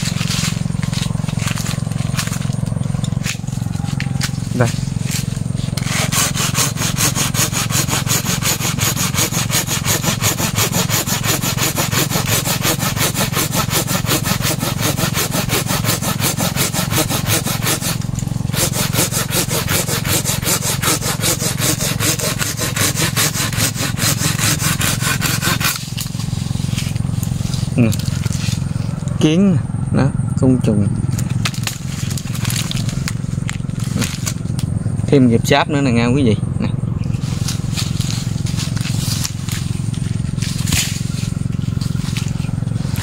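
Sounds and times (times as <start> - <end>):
hand saw cutting branch: 0.0 - 29.0, 31.2 - 34.7, 37.1 - 43.0.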